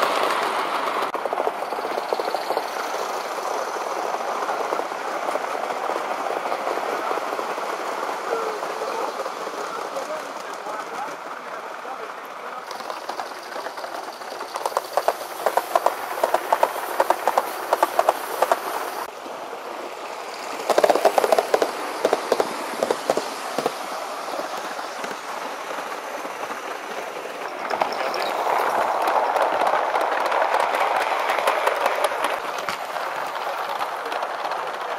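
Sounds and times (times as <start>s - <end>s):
model trains rolling: 0.0s - 34.9s
wheels clicking over rail joints: 0.0s - 34.9s.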